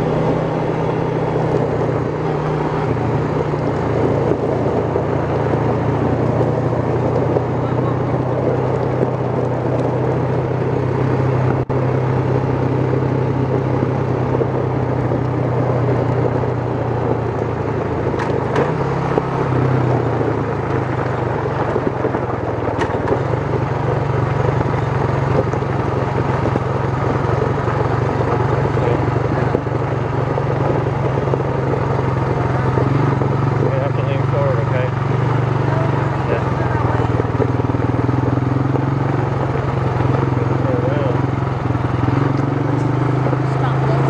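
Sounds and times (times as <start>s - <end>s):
atv engine running: 0.0s - 44.0s
wind and road noise: 0.0s - 44.0s.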